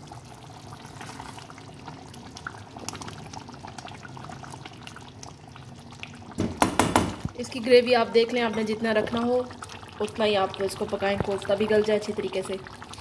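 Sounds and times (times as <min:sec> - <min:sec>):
curry bubbling in a frying pan: 0:00.0 - 0:13.0.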